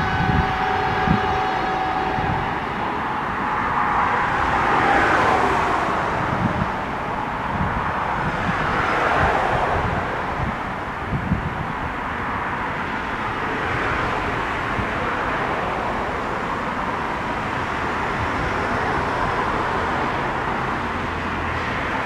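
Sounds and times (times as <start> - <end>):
distant traffic rushing: 0.0 - 22.0.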